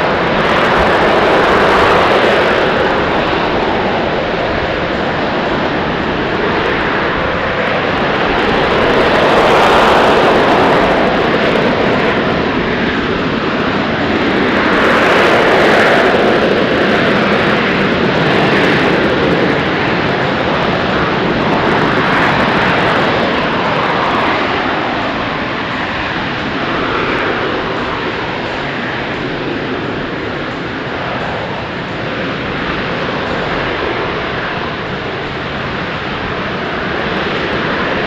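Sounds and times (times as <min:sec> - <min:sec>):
loud jet engine whooshing: 0:00.0 - 0:38.0.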